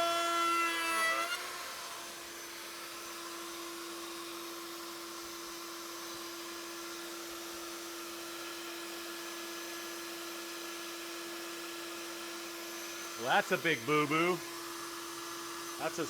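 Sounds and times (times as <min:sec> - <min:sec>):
wood router motor whining: 0:00.0 - 0:16.0.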